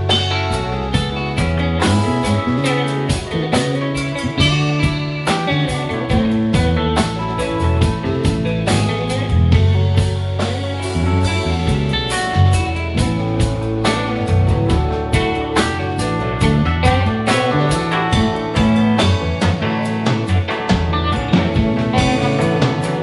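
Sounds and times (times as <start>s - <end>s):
bass guitar: 0.0s - 23.0s
drum kit beat: 0.0s - 23.0s
electric guitars: 0.0s - 23.0s
keyboard: 0.0s - 23.0s.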